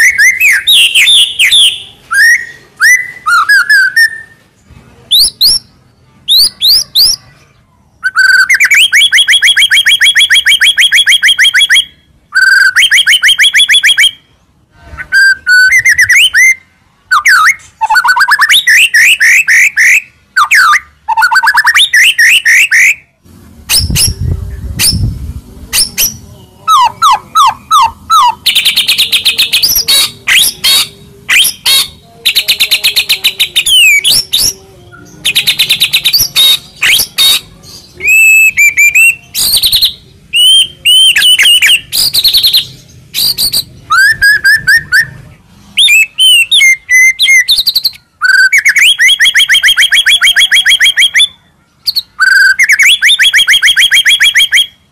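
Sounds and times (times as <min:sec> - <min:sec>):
songbird singing trills and whistles: 0:00.0 - 0:14.4, 0:15.0 - 0:54.9.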